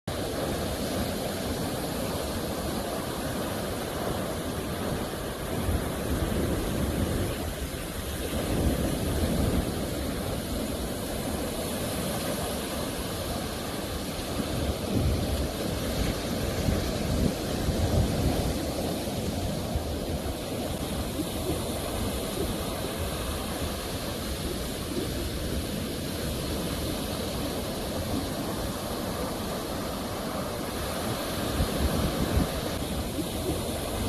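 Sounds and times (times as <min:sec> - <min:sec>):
sea waves washing on shore: 0:00.1 - 0:34.0.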